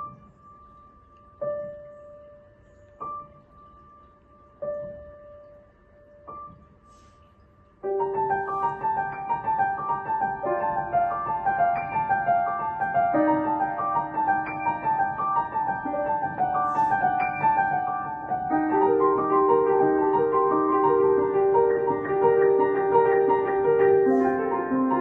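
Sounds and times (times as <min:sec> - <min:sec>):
solo piano playing: 0:00.0 - 0:07.1, 0:07.8 - 0:25.0.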